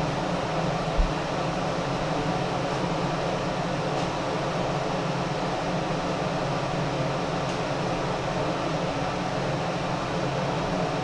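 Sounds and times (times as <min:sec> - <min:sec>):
ventilation fan humming: 0:00.0 - 0:11.0.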